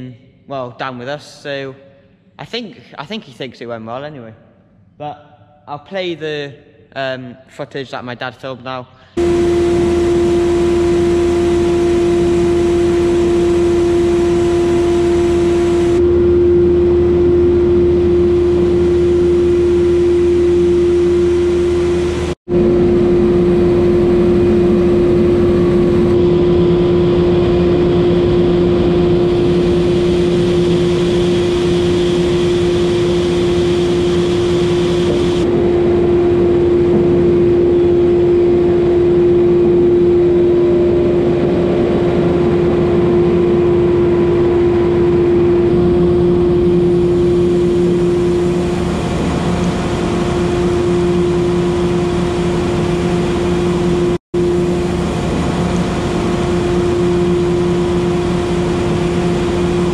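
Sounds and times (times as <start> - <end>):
machine hum: 9.1 - 59.9.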